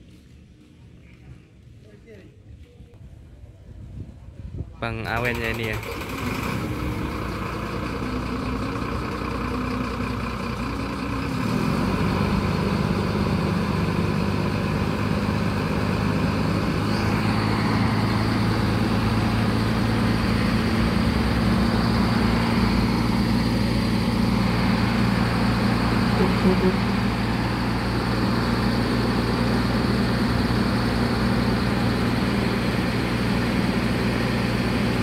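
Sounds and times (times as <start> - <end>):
diesel bus engine idling: 5.1 - 35.0.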